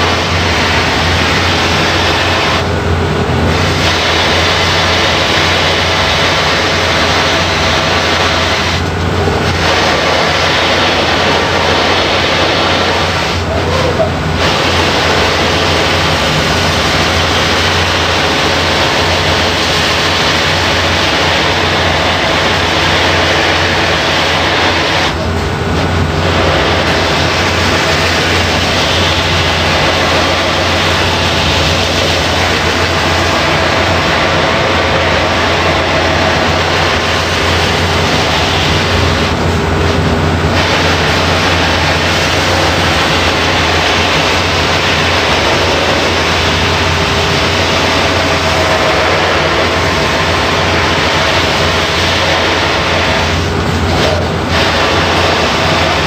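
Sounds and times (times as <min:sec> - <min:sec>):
buffing machine hissing: 0:00.0 - 0:56.0.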